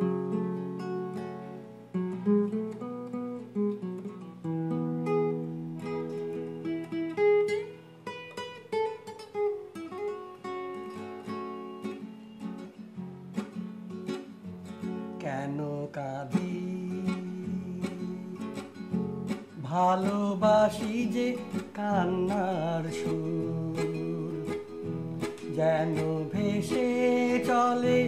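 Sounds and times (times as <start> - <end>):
classical guitar fingerstyle: 0.0 - 28.0.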